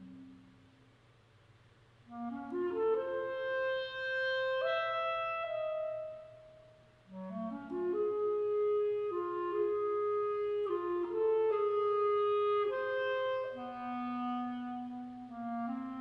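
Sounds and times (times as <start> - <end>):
clarinet playing long notes: 0.0 - 0.5, 2.1 - 16.0.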